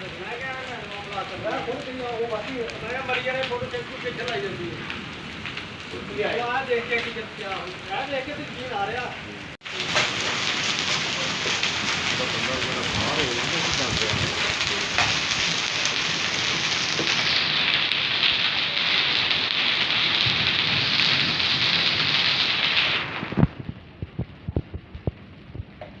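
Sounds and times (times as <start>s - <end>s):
hail and rain pelting down: 0.0s - 26.0s.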